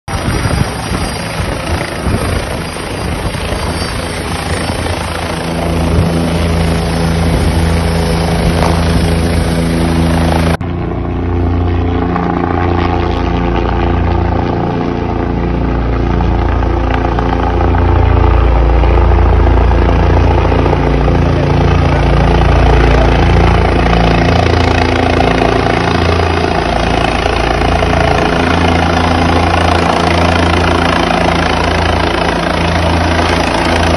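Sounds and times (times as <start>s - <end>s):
helicopter rotor and engine hum: 0.0s - 33.9s.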